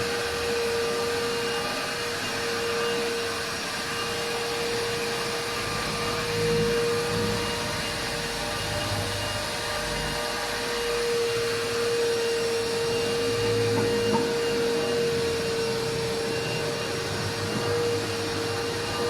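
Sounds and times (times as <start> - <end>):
car wash motor whining: 0.0 - 19.0.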